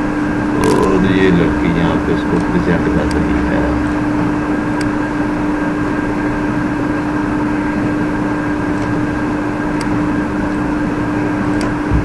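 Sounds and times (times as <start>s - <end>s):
machine hum and hiss: 0.0s - 12.0s.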